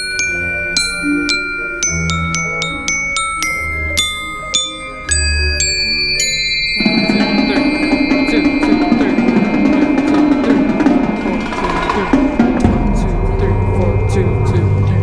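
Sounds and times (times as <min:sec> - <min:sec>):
drumline percussion: 0:00.0 - 0:13.3
glockenspiel notes: 0:00.0 - 0:13.5
steady low held tone: 0:00.0 - 0:15.0.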